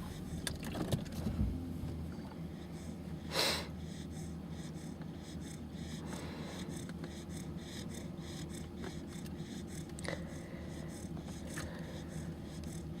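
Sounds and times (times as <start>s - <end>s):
steady low hum: 0.0s - 13.0s
puppy snoring: 2.5s - 13.0s.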